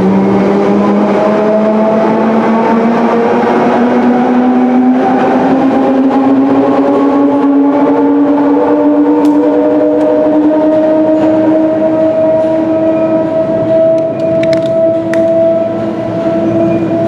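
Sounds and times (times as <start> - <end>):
train motor whine rising: 0.0 - 17.0
train rumbling in tunnel: 0.0 - 17.0.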